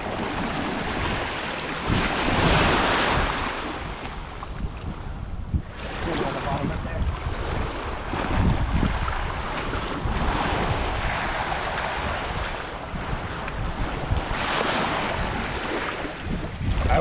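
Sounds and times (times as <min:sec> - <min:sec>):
small waves breaking on sand: 0:00.0 - 0:05.0, 0:05.6 - 0:17.0
wind buffeting microphone: 0:00.0 - 0:17.0.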